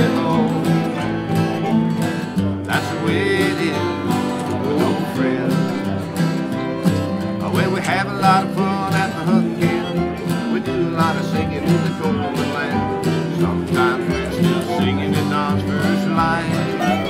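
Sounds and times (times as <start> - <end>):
fiddle: 0.0 - 17.0
slide guitar bending notes: 0.0 - 17.0
strummed acoustic guitars: 0.0 - 17.0.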